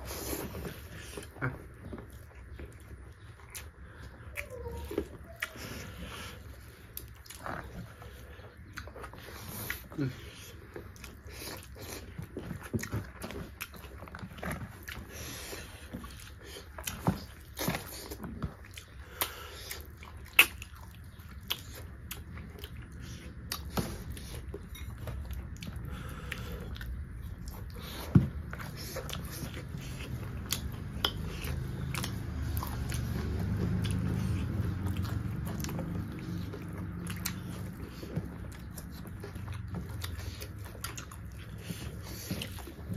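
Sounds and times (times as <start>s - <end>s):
chewing and mouth smacks: 0.0s - 42.9s.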